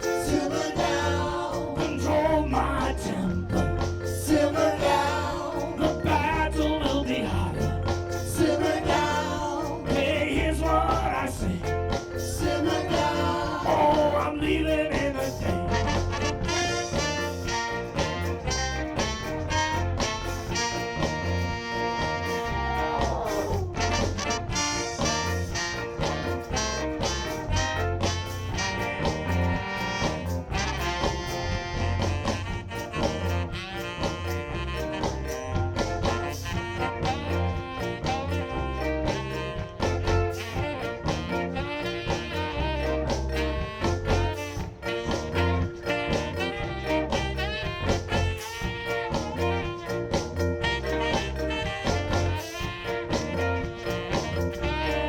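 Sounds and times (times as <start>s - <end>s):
horn section: 0.0s - 55.0s
live ska band playing: 0.0s - 55.0s.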